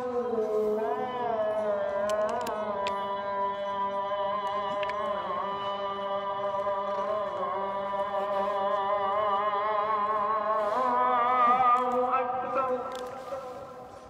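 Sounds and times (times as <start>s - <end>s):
person chanting held notes: 0.0s - 14.0s.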